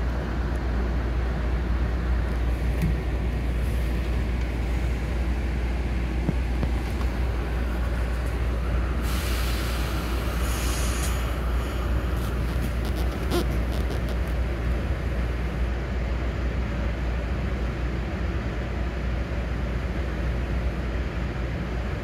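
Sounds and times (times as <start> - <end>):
train car rumble: 0.0 - 22.0.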